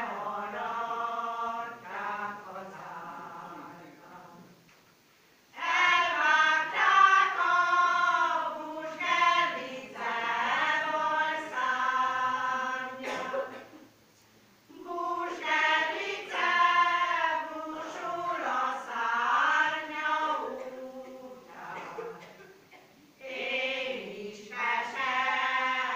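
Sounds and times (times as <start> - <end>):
women's choir singing folk song: 0.0 - 4.7, 5.5 - 13.8, 14.7 - 22.6, 23.2 - 25.9.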